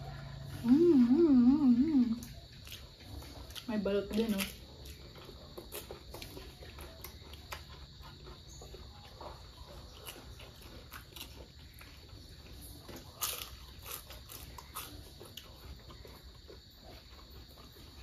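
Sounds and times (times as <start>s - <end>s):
people chewing and lip-smacking: 0.0s - 18.0s
food crunching: 2.1s - 18.0s.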